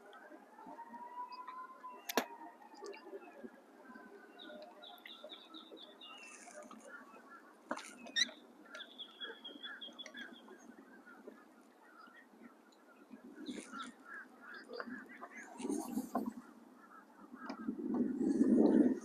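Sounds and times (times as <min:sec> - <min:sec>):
birds chirping: 0:00.7 - 0:19.0.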